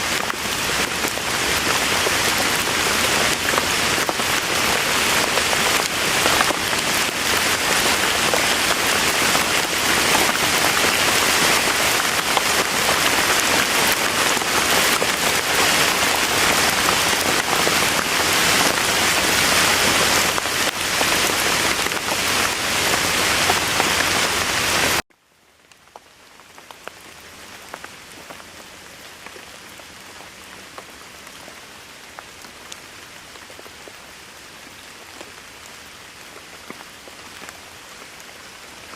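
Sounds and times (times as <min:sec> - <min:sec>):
heavy rain falling: 0:00.0 - 0:25.0, 0:25.6 - 0:38.9
soft rain: 0:00.0 - 0:38.9.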